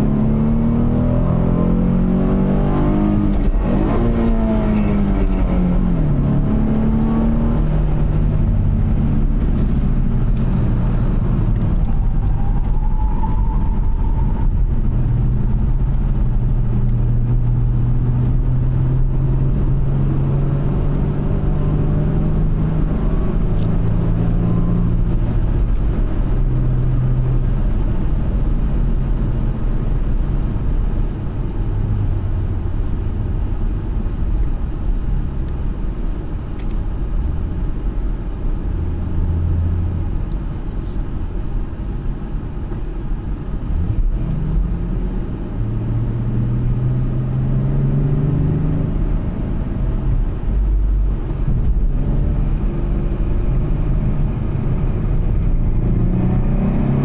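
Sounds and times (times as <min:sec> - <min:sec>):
car engine running: 0:00.0 - 0:56.9
road and tyre noise: 0:00.0 - 0:57.0.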